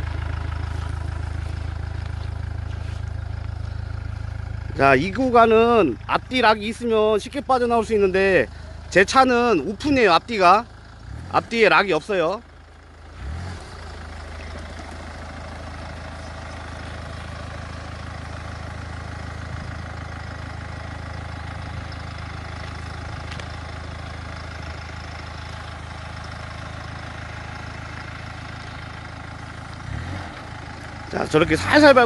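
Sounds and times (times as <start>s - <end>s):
suv engine running at low revs: 0.0s - 32.0s.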